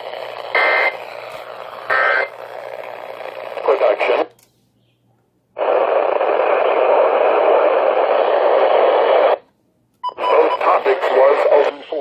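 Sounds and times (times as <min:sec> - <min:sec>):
radio static hiss: 0:00.0 - 0:04.4, 0:05.6 - 0:09.4, 0:10.3 - 0:12.0.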